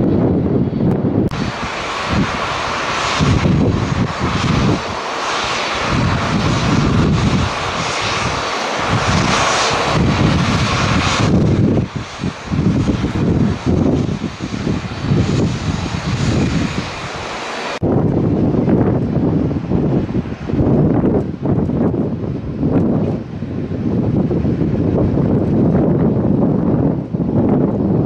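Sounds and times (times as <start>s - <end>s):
jet engines whining: 0.0s - 28.0s
wind buffeting microphone: 0.0s - 28.0s.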